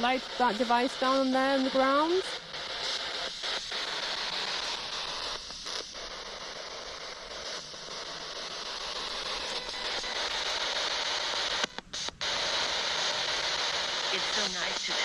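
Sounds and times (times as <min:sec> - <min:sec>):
radio scanner white noise static: 0:00.0 - 0:15.0.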